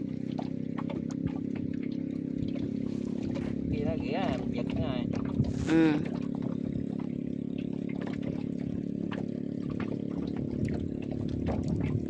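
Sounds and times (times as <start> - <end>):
low motor hum: 0.0 - 12.0
water trickling and dripping: 0.0 - 12.0.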